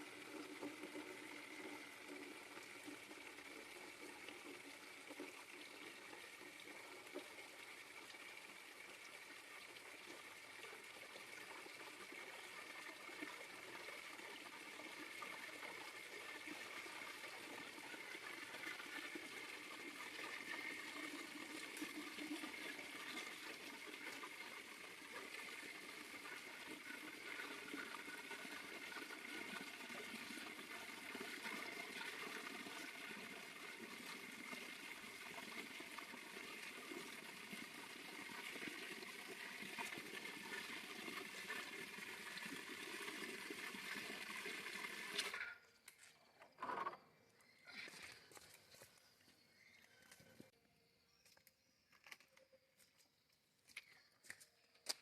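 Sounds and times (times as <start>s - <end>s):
water running: 0.0s - 45.6s.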